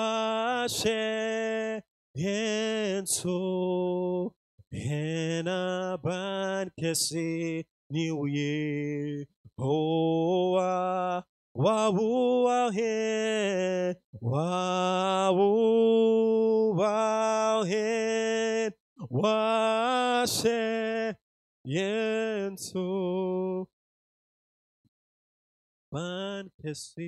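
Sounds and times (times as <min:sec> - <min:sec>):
man singing chant into microphone: 0:00.0 - 0:23.7, 0:26.0 - 0:27.0.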